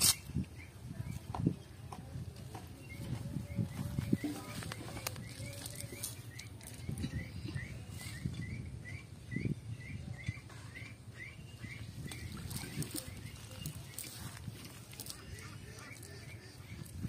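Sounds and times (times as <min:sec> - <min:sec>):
bird chirping: 0:02.5 - 0:17.0.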